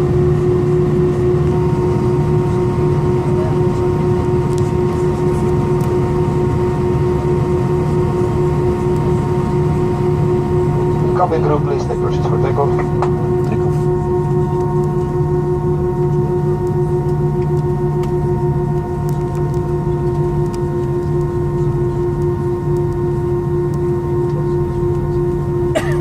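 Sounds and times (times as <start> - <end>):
jet engines idling in cabin: 0.0 - 26.0.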